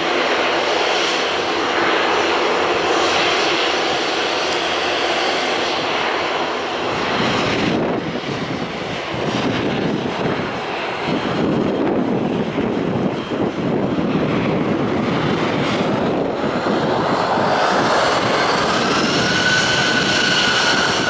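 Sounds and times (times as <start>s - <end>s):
jet airliner roar at take-off: 0.0s - 21.0s.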